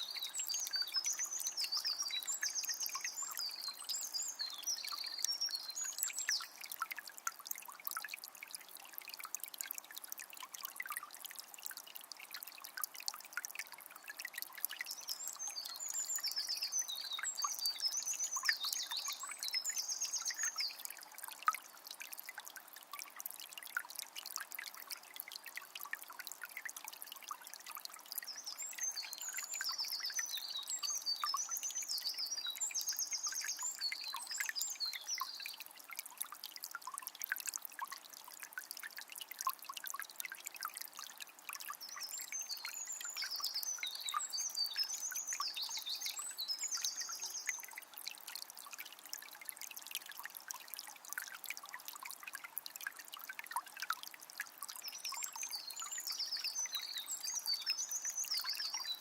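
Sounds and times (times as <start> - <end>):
spring water trickling: 0.0 - 59.0.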